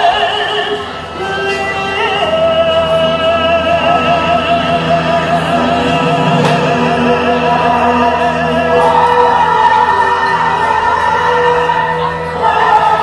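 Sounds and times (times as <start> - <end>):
opera singing with accompaniment: 0.0 - 13.0.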